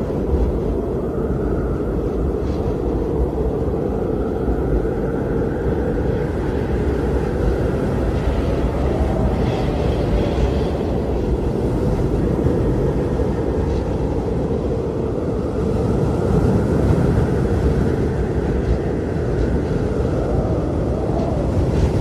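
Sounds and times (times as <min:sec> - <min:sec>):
blizzard wind rushing: 0:00.0 - 0:22.0
faint high wind howl: 0:00.0 - 0:22.0.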